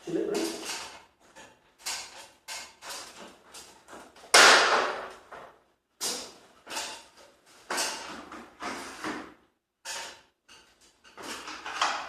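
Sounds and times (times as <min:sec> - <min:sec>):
sharp knocks and clatters: 0:00.2 - 0:12.0.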